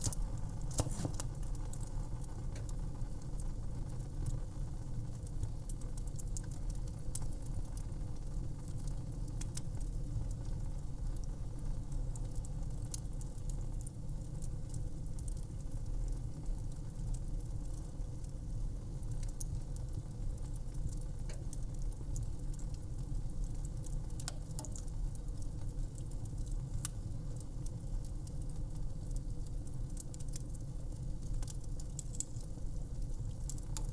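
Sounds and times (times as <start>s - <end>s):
fire crackling: 0.0s - 33.9s
low rumble of flames: 0.0s - 33.9s.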